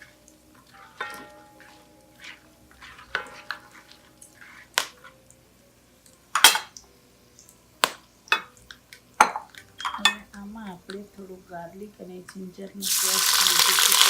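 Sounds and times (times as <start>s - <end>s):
spices frying in oil: 0.0s - 10.9s, 12.2s - 14.0s.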